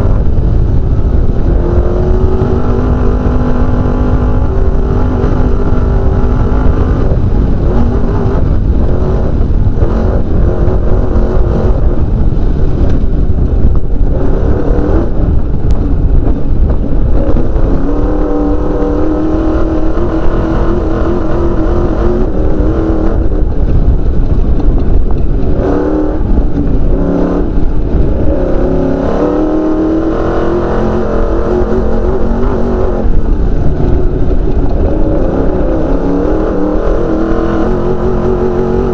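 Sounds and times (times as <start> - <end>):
car rumbling over dirt track: 0.0 - 38.9
race car engine revving: 0.0 - 38.9.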